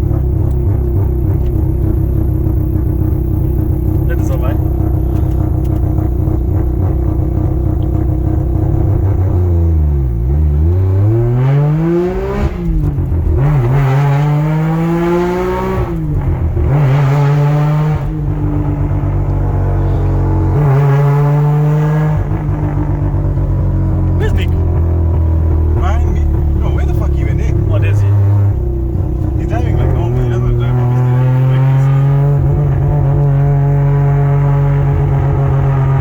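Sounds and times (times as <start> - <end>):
rotary engine accelerating: 0.0 - 36.0.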